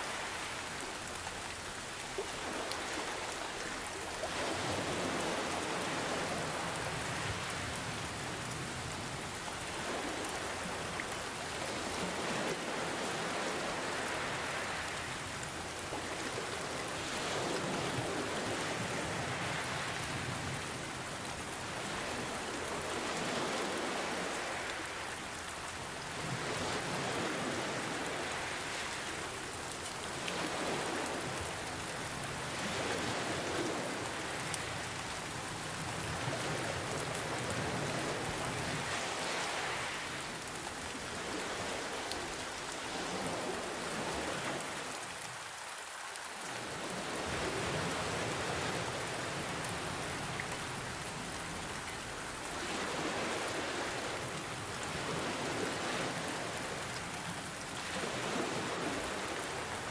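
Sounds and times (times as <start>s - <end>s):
ocean waves: 0.0s - 59.9s
steady rain: 0.0s - 59.9s.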